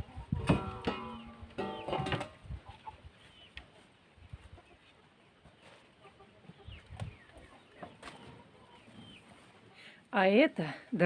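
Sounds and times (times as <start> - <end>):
chickens clucking: 0.0 - 9.9.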